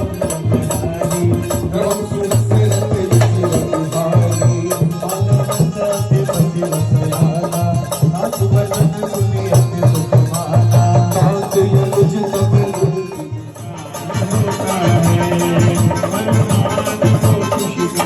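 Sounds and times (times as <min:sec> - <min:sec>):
dholak drum beating: 0:00.0 - 0:18.0
electronic organ melody: 0:00.0 - 0:18.0.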